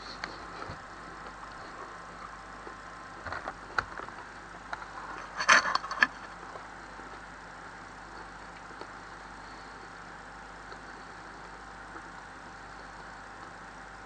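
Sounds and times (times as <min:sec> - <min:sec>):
refrigerator humming: 0:00.0 - 0:14.0.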